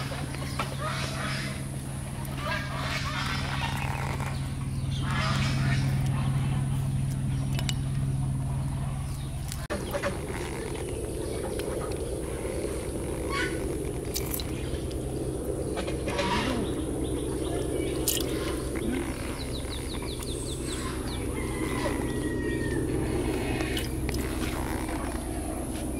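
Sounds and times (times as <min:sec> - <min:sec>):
faint bird calls: 0:00.0 - 0:25.9
steady low rumble: 0:00.0 - 0:25.9.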